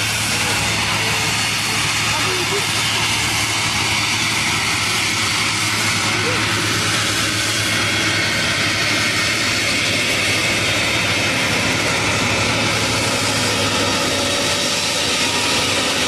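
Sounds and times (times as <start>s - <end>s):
aircraft jet engines running: 0.0s - 16.0s.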